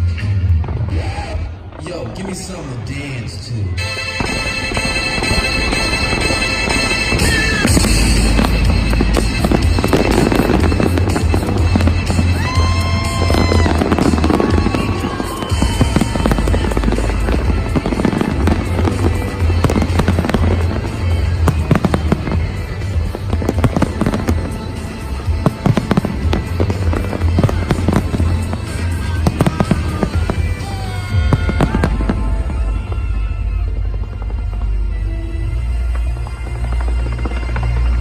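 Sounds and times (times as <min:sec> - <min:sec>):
fireworks bangs and crackles: 0:00.0 - 0:38.0
loud music: 0:00.0 - 0:38.0.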